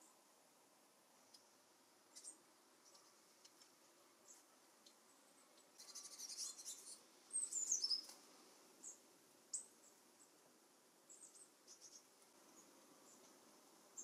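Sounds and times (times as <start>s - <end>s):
birds twittering contact calls: 1.2s - 14.0s.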